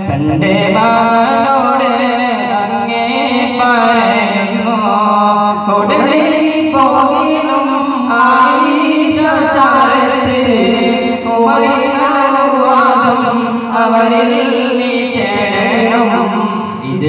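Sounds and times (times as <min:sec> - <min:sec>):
men singing through microphones: 0:00.0 - 0:17.0.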